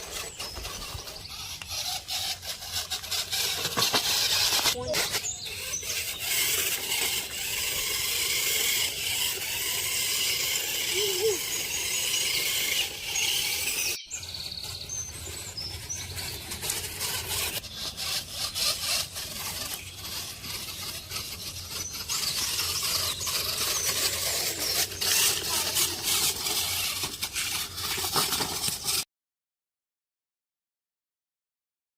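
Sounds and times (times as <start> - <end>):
small motors squealing: 0.0 - 29.0.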